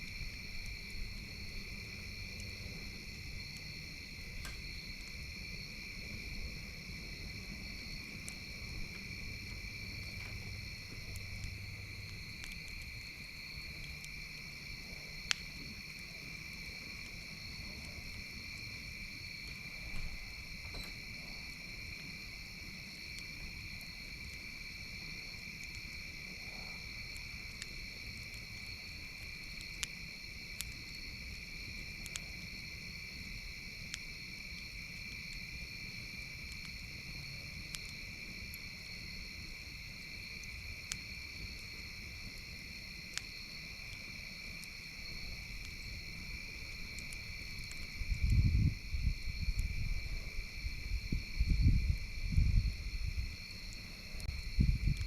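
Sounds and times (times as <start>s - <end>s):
campfire crackling and popping: 0.0s - 55.0s
insect chorus: 0.0s - 55.0s.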